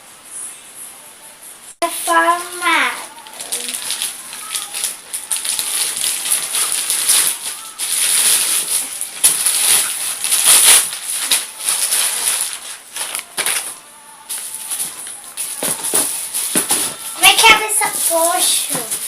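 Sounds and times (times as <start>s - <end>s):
gift wrapping crinkling and tearing: 1.9s - 19.0s.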